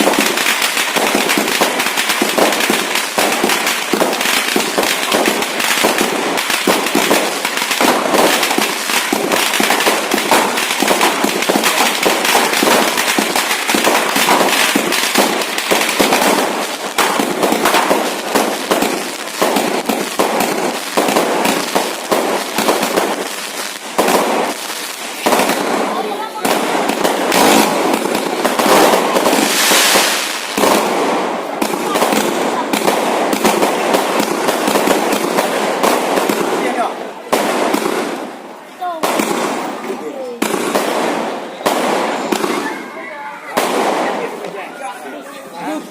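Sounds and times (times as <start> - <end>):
fireworks and firecrackers banging: 0.0 - 45.9.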